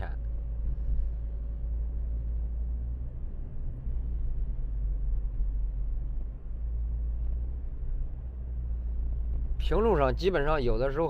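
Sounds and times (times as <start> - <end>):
road rumble and tyre noise: 0.0 - 11.0.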